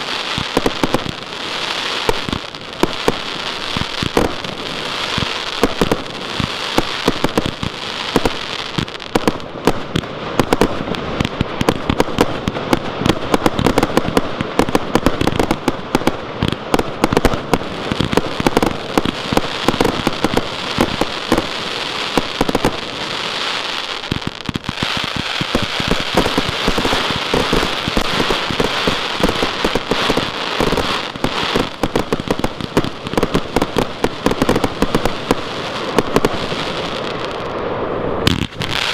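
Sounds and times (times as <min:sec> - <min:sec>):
firework crackling pops and bangs: 0:00.0 - 0:38.9.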